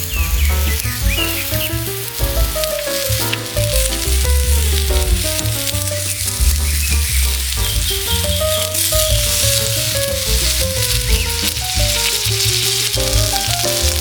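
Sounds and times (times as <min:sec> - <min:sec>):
background music: 0:00.0 - 0:14.0
food sizzling on a griddle: 0:00.0 - 0:14.0.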